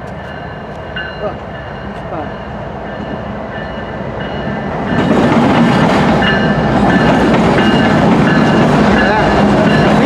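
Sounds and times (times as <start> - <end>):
freight train wheels rolling on rails: 0.0 - 10.0.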